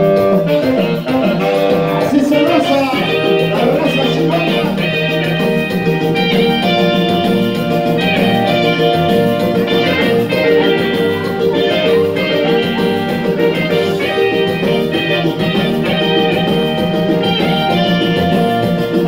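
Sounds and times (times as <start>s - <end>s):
dance music with plucked guitar: 0.0s - 19.0s.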